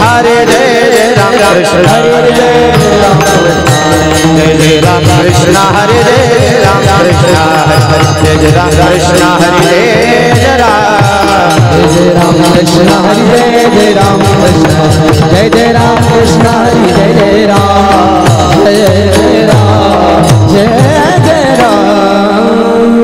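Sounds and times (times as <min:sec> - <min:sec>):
group singing in chorus: 0:00.0 - 0:23.0.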